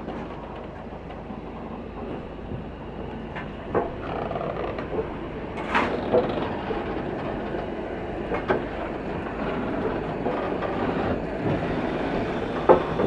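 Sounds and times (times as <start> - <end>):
steam train rumbling: 0.0 - 13.0.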